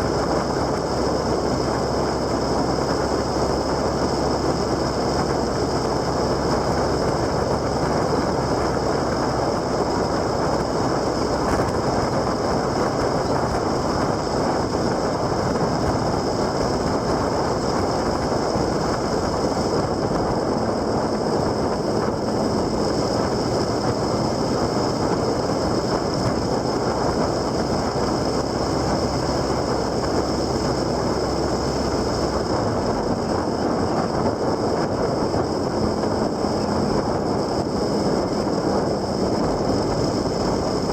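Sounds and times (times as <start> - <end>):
vehicle running noise: 0.0 - 40.9
wind rush: 0.0 - 40.9.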